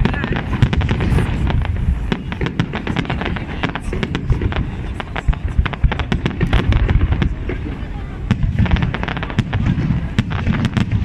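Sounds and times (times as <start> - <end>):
fireworks crackling and popping: 0.0 - 11.0
low booming of fireworks: 0.0 - 11.0.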